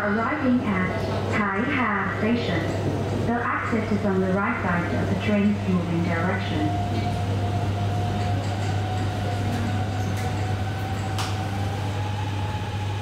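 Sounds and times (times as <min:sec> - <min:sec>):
train hum and rumble: 0:00.0 - 0:13.0.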